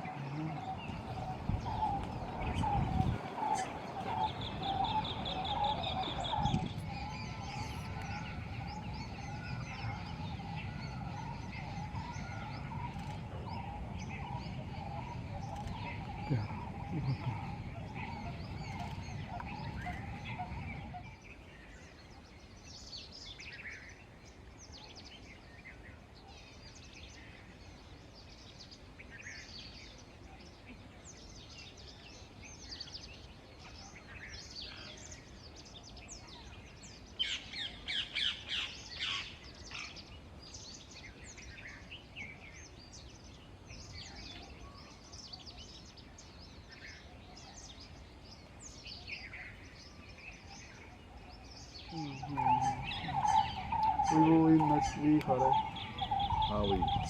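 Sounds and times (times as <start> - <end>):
wild birds chirping: 0.0 - 57.0.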